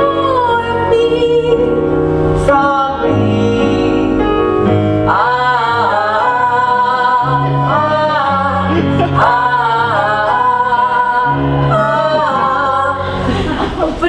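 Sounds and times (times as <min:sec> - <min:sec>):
instrumental accompaniment: 0:00.0 - 0:13.8
musical theatre singing: 0:00.0 - 0:14.0.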